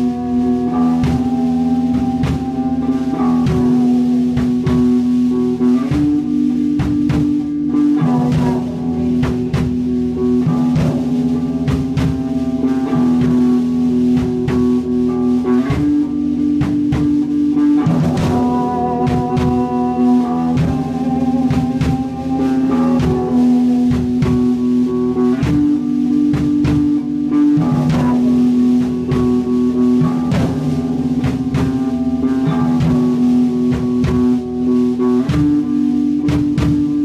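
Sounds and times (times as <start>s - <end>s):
drum beat with cymbal hits: 0.0s - 37.0s
electric guitar notes: 0.0s - 37.0s.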